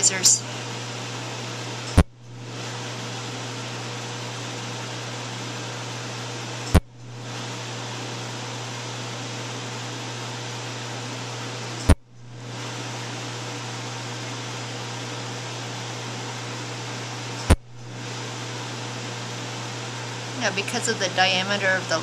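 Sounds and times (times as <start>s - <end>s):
fan hum and hiss: 0.0s - 22.0s.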